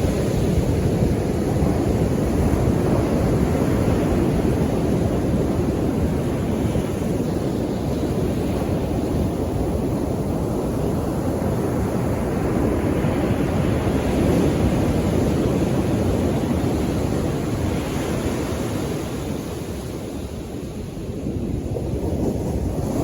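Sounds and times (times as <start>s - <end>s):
ocean surf washing onto shore: 0.0s - 23.0s.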